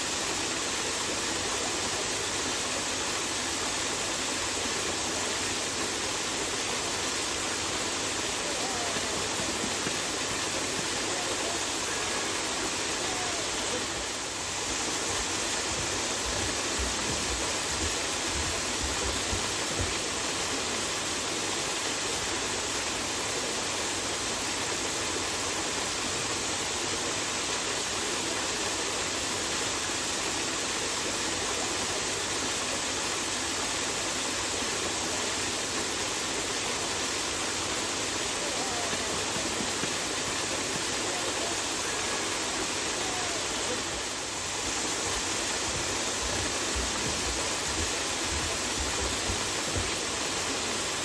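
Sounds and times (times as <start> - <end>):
waterfall splashing: 0.0 - 51.0.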